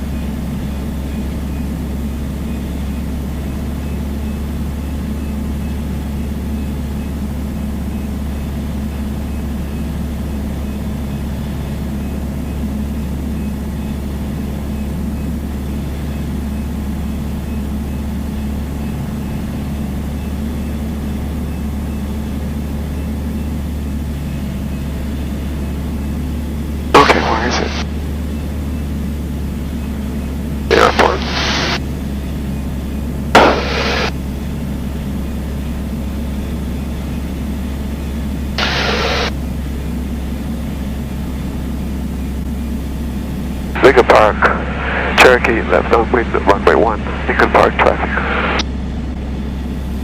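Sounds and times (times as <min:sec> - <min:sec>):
propeller plane engine drone: 0:00.0 - 0:50.0.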